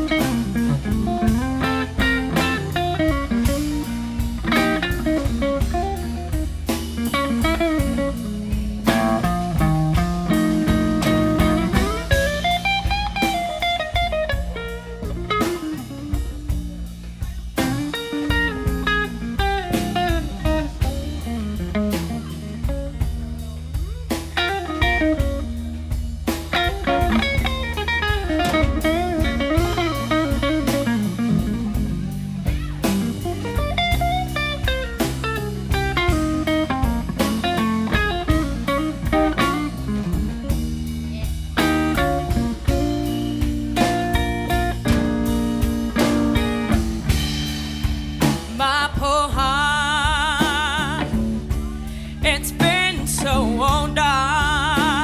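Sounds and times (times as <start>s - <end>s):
bass: 0.0s - 55.0s
bluesy lead guitar melody: 0.0s - 55.0s
drums: 0.0s - 55.0s.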